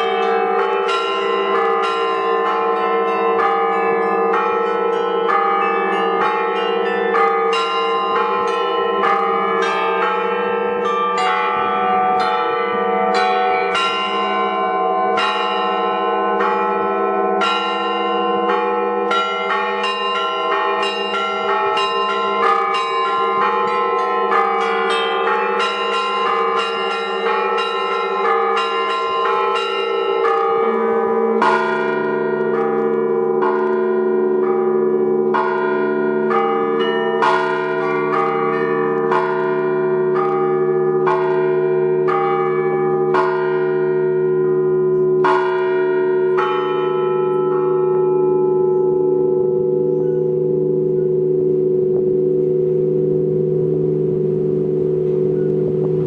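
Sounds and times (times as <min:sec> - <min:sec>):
deep bell ringing: 0:00.0 - 0:56.0
large bells humming: 0:00.0 - 0:56.0.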